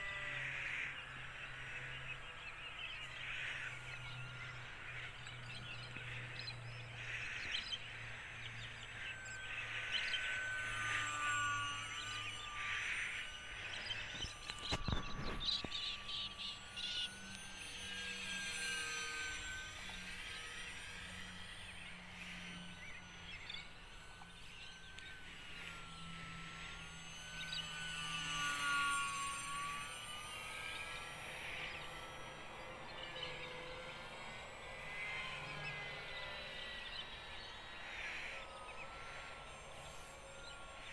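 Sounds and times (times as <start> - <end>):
model plane motor whining: 0.0 - 40.9.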